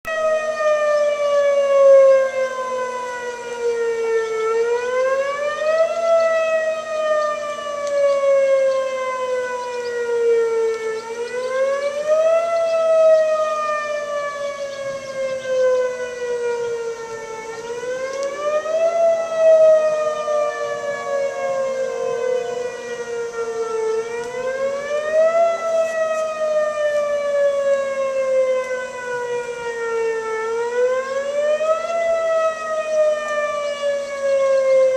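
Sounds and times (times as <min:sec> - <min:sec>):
tornado warning siren wailing: 0:00.0 - 0:34.9.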